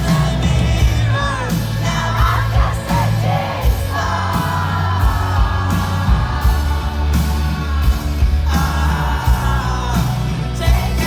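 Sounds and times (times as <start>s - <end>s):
pop-rock band playing: 0.0s - 11.0s
steady drum beat: 0.0s - 11.0s.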